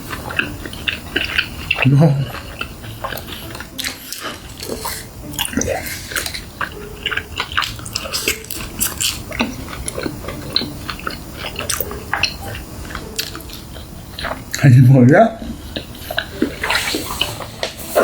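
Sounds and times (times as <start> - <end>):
person chewing crunchy food: 0.0 - 14.7, 15.4 - 18.0.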